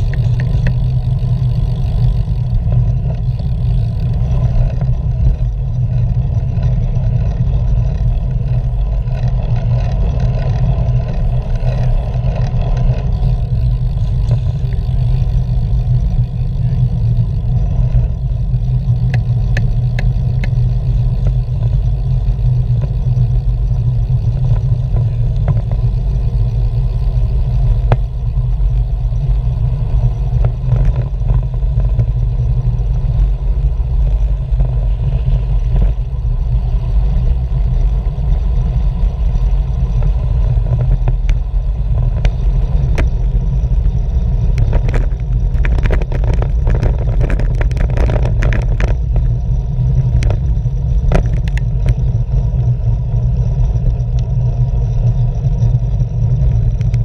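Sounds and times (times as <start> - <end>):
bicycle clicks and rattles: 0.0 - 57.0
wind buffeting microphone: 0.0 - 57.0.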